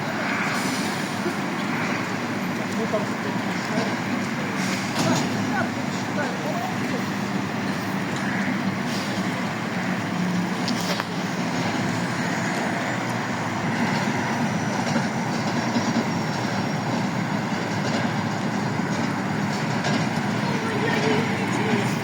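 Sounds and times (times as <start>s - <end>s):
bus engine humming: 0.0s - 22.0s
mechanical and road noise: 0.0s - 22.0s.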